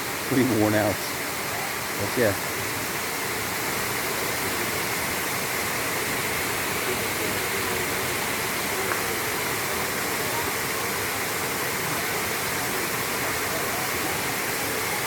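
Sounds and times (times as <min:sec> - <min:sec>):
waterfall splashing into pool: 0:00.0 - 0:15.0.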